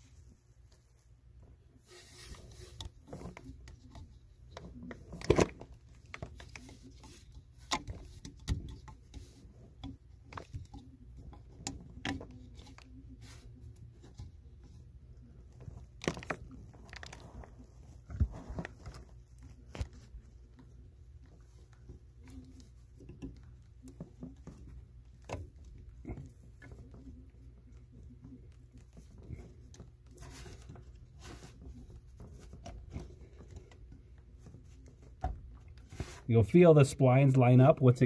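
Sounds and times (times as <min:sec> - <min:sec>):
hands handling rubber impeller: 0:00.0 - 0:36.6.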